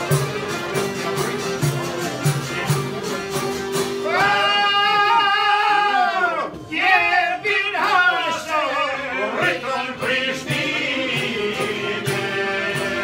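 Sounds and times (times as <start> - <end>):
folk ensemble playing: 0.0 - 13.0.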